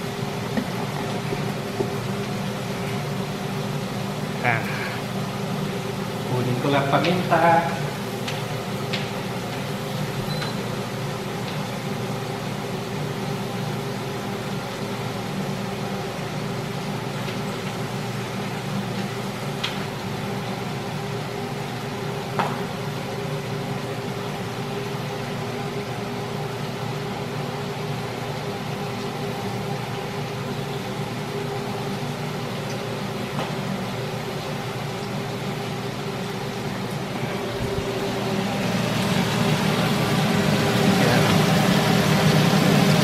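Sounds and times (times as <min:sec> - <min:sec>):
pork frying in oil: 0:00.0 - 0:43.0
range hood fan humming: 0:00.0 - 0:43.0.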